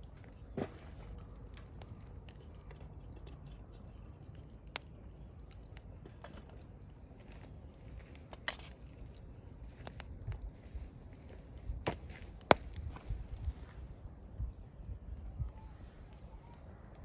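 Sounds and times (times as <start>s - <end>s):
campfire crackling and popping: 0.0s - 17.0s
low fire rumble: 0.0s - 17.0s.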